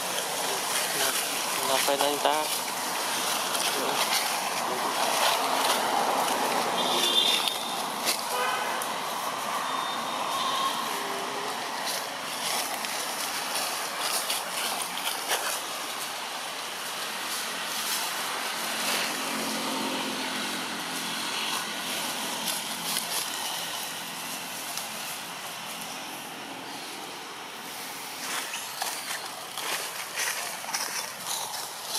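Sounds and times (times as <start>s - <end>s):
dry leaves rustling: 0.0s - 31.9s
outdoor background noise: 0.0s - 31.9s.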